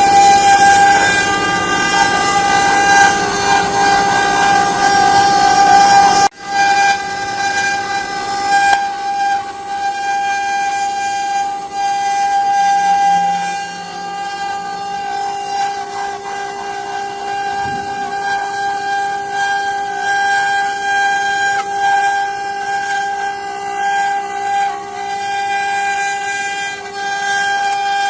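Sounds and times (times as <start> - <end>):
router spindle whine: 0.0 - 28.0
wood cutting noise: 0.0 - 28.0.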